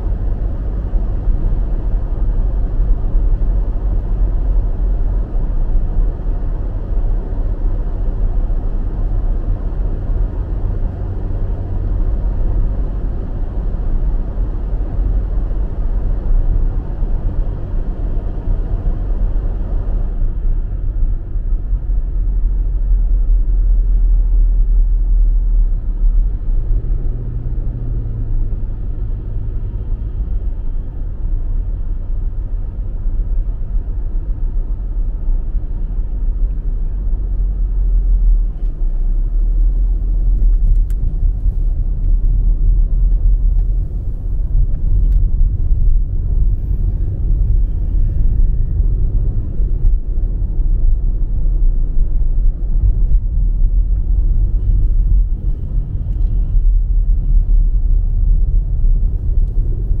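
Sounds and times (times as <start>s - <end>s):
car road noise from inside: 0.0s - 60.0s.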